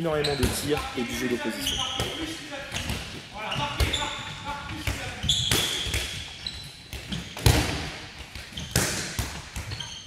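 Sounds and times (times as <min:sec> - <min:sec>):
sneaker squeaks: 0:00.2 - 0:10.0
handballs thudding in hall: 0:00.4 - 0:10.0.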